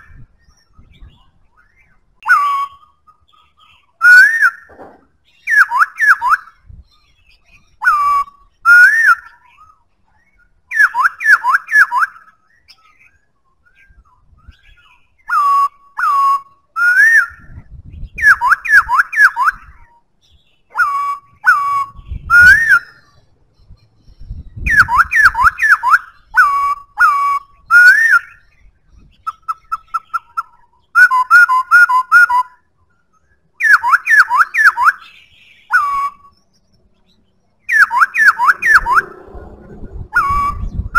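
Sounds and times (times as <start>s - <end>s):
bird singing whistled phrases: 0.0s - 4.7s, 5.3s - 36.6s, 37.6s - 39.2s, 40.1s - 40.9s.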